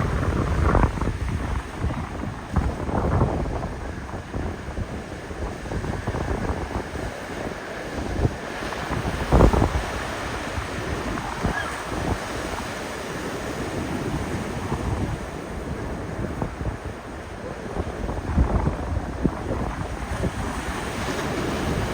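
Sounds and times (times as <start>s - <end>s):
surf breaking on beach: 0.0s - 21.9s
wind buffeting microphone: 0.0s - 21.9s.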